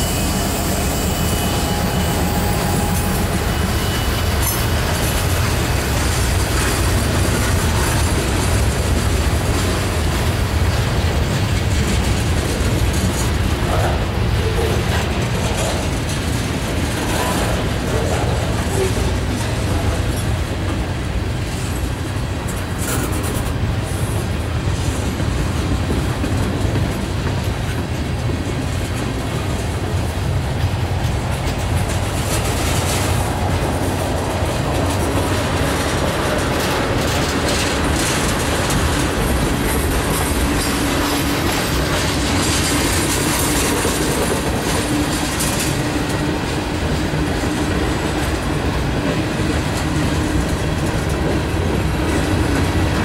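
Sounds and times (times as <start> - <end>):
wheels on rail: 0.0 - 53.0.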